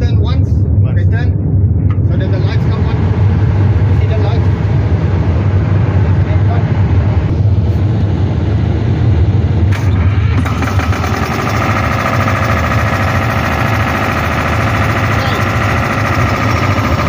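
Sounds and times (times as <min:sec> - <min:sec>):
machinery low drone: 0:00.0 - 0:17.0
second machine whirring: 0:01.8 - 0:17.0.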